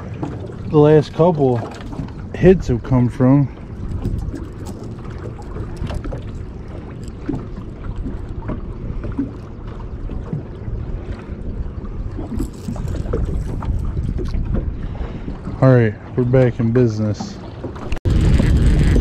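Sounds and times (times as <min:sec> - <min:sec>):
wind rumbling on microphone: 0:00.0 - 0:16.2, 0:17.6 - 0:19.0
water lapping against boat hull: 0:00.0 - 0:19.0.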